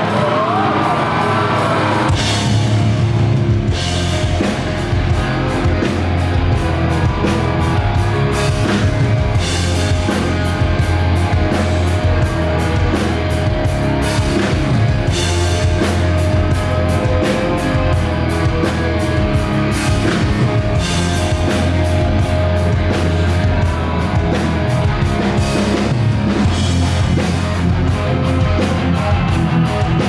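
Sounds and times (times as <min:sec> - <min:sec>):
distorted electric guitars: 0:00.0 - 0:30.0
drum kit: 0:00.0 - 0:30.0
heavy bass: 0:00.0 - 0:30.0.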